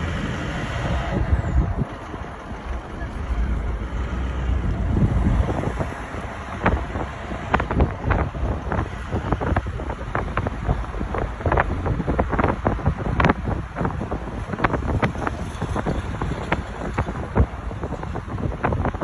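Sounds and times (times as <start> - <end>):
low rumble: 0.0 - 18.6
wind buffeting microphone: 0.0 - 19.0.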